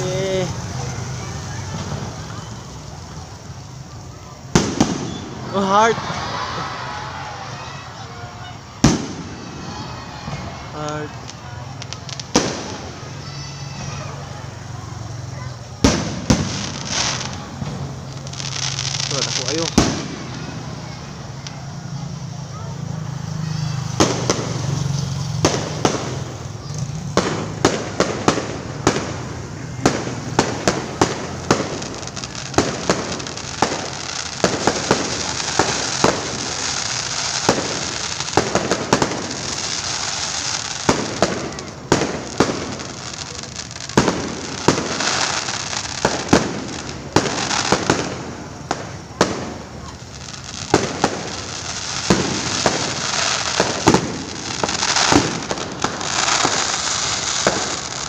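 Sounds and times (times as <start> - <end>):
fireworks bangs: 0.0 - 58.0
fireworks crackling: 0.0 - 58.0.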